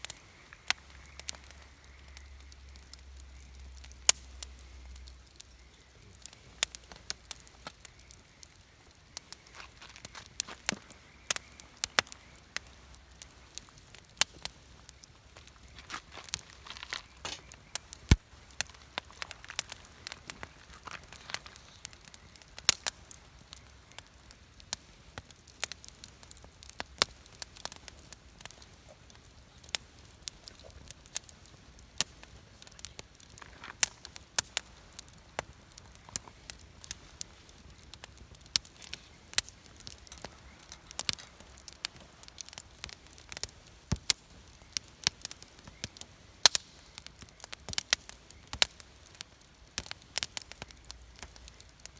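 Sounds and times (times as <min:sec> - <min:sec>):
campfire crackling and popping: 0:00.0 - 0:51.9
faint low hiss: 0:00.0 - 0:51.9.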